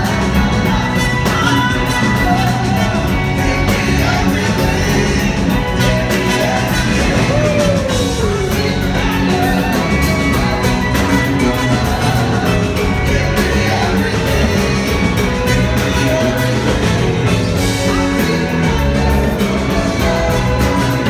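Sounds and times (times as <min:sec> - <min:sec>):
lead singer's voice: 0:00.0 - 0:21.0
live rock band playing: 0:00.0 - 0:21.0.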